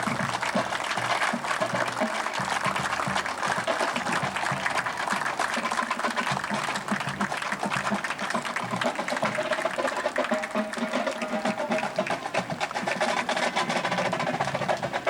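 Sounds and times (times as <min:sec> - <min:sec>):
crowd clapping: 0:00.0 - 0:15.0.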